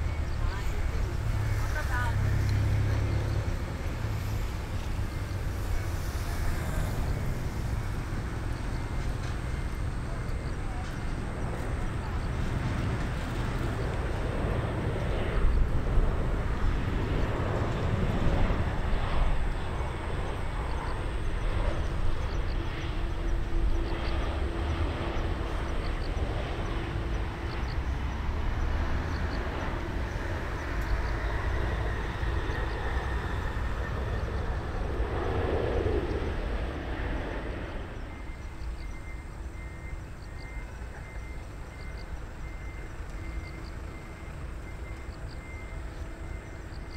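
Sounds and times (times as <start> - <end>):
jet engine rushing: 0.0 - 40.6.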